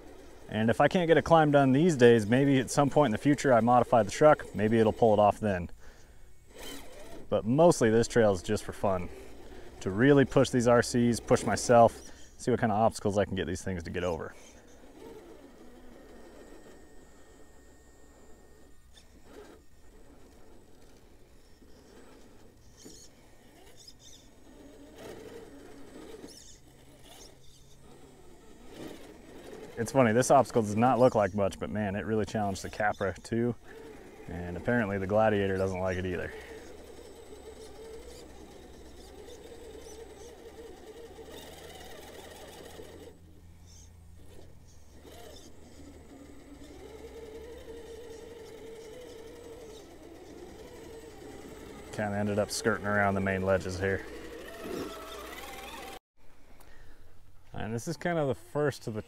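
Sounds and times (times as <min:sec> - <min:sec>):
electric motor whine: 0:00.0 - 0:56.0
low steady hum: 0:00.0 - 0:59.0.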